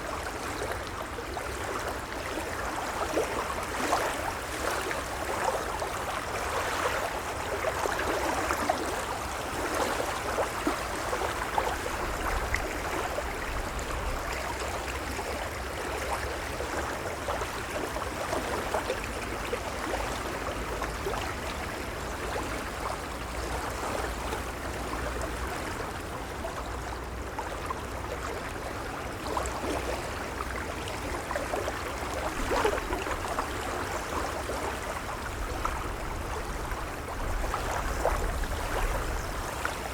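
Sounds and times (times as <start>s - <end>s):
waves lapping against shore: 0.0s - 39.9s.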